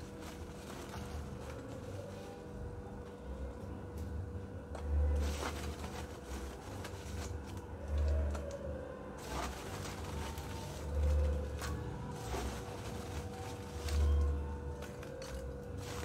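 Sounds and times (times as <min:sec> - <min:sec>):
woven sack rustling: 0:00.0 - 0:02.8, 0:05.1 - 0:16.0.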